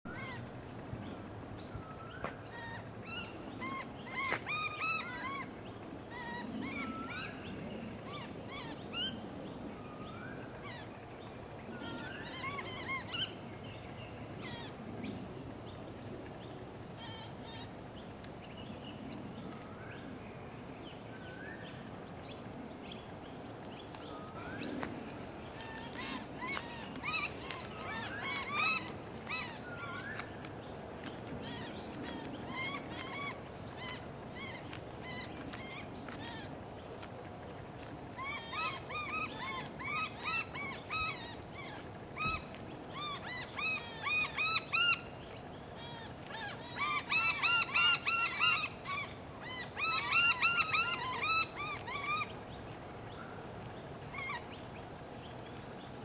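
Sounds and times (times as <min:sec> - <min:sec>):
high steady hiss: 0:00.1 - 0:56.0.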